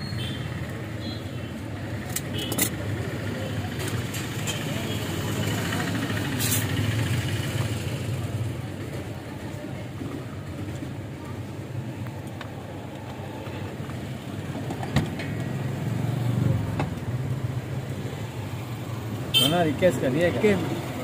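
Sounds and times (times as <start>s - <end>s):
rumble of motor traffic: 0.0s - 21.0s.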